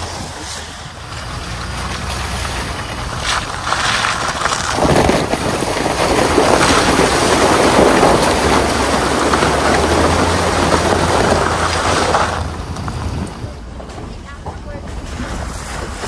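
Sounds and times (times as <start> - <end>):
vehicle splashing through water: 0.0 - 13.6
low engine hum: 0.0 - 16.0.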